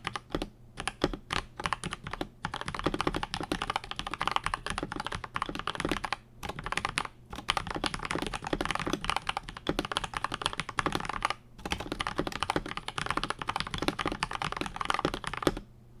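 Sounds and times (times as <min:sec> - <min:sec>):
fast typing on mechanical keyboard: 0:00.0 - 0:15.7.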